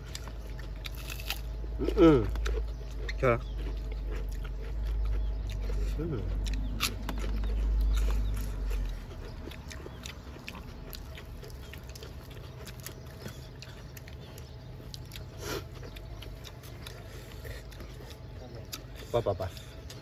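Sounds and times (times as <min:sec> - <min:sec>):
lettuce leaf crunch: 0:00.0 - 0:19.7
chewing with wet mouth clicks: 0:00.0 - 0:20.0.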